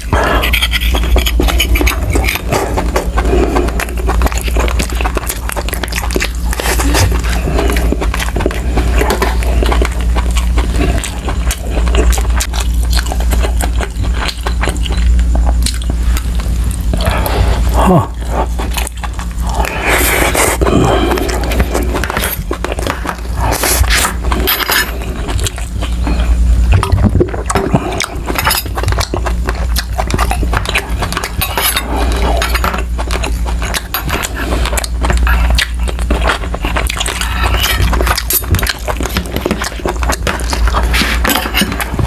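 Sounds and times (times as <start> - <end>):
close chewing and mouth smacks: 0.0 - 42.0
steady low hum: 0.0 - 42.0.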